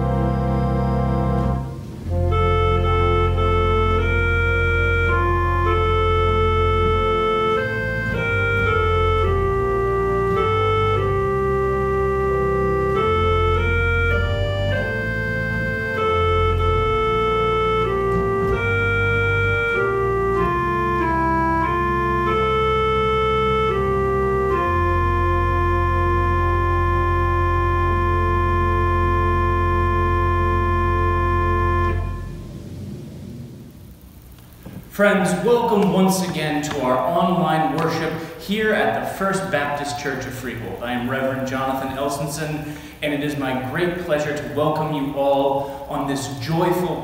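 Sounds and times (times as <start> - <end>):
church organ chords: 0.0 - 47.0.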